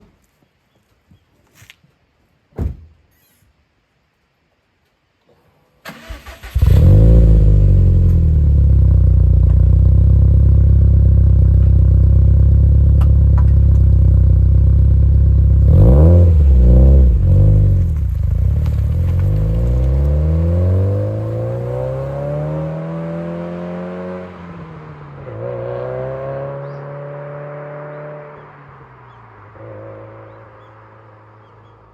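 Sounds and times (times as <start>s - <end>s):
car engine starting and revving: 5.9s - 31.9s.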